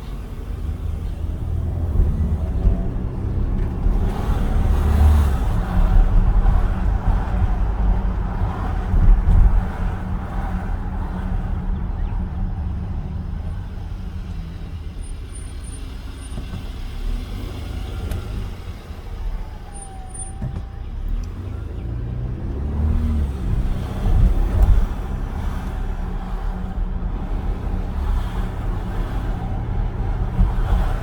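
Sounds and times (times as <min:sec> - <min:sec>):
car road rumble: 0:00.0 - 0:31.0.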